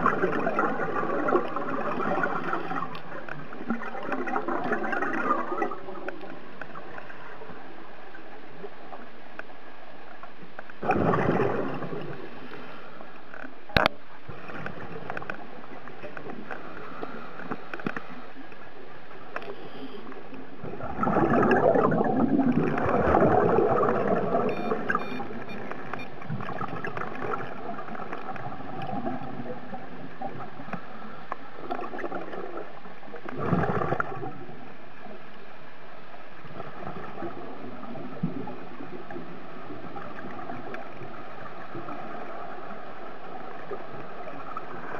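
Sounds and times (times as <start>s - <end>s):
regulator bubbles gurgling underwater: 0.0s - 44.9s.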